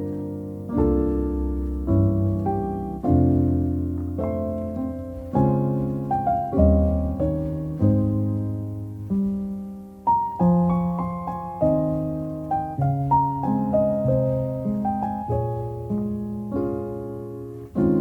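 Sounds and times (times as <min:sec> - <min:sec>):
gentle piano piece: 0:00.0 - 0:18.0.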